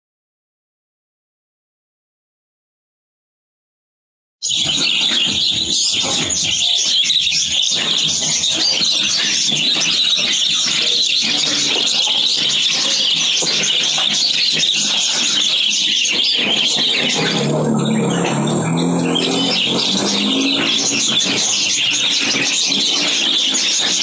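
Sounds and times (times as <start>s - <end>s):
budgerigars chattering and chirping: 4.4s - 24.0s.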